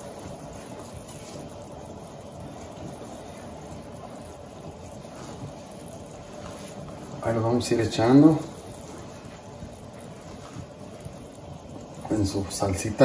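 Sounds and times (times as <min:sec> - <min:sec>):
sauce bubbling in a pan: 0:00.0 - 0:13.0.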